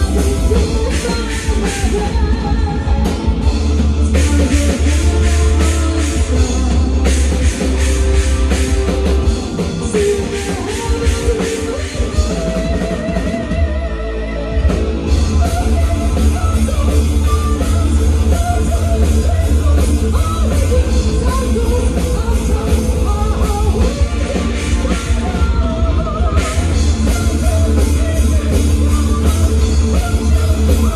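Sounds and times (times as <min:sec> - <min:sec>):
bass guitar: 0:00.0 - 0:30.9
distorted electric guitars: 0:00.0 - 0:30.9
drum kit: 0:00.0 - 0:30.9
woman singing with vibrato: 0:00.0 - 0:30.9.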